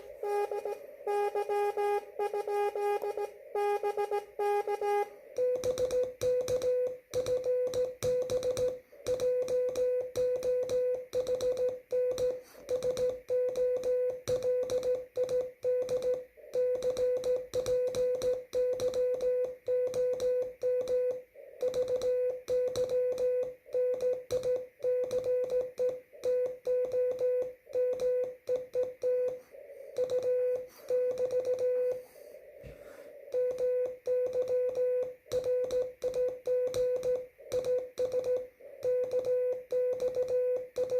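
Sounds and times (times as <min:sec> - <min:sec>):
morse code tone: 0:00.0 - 0:40.9.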